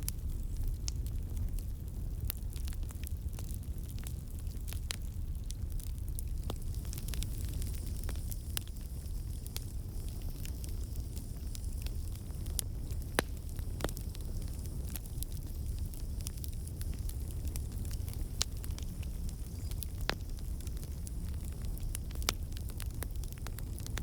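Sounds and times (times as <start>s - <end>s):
campfire rumbling: 0.0s - 24.0s
wood crackling and popping: 0.0s - 24.0s.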